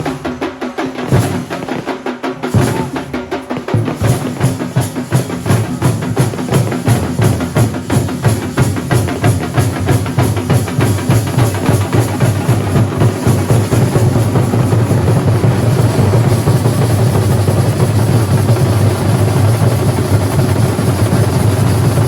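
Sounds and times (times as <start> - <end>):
drum troupe playing fast rhythm: 0.0 - 22.0.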